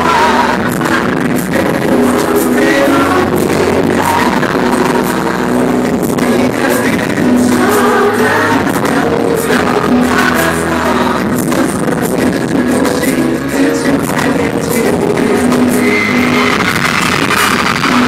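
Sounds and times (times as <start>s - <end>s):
backing track with steady beat: 0.0s - 18.0s
male group singing pop song: 0.0s - 18.0s.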